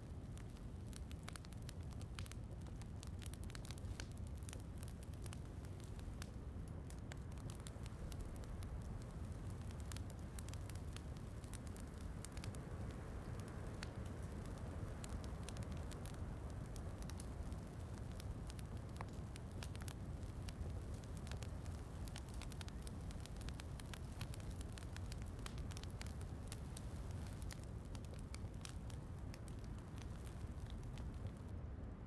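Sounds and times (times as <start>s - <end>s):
log fire crackling: 0.0s - 32.0s
low rumble of rain: 0.0s - 32.0s.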